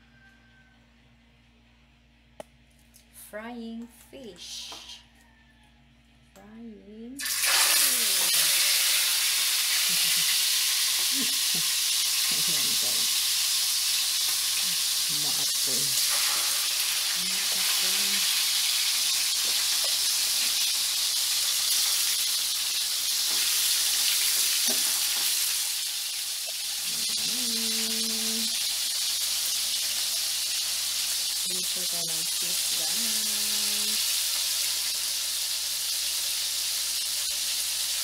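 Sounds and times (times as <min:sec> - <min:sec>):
fish sizzling in hot oil: 0:07.2 - 0:38.0.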